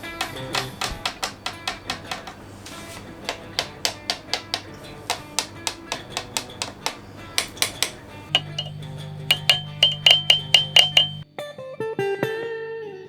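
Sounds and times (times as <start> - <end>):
guitar amp mains hum: 0.0 - 11.2
sharp ticks: 0.0 - 11.2.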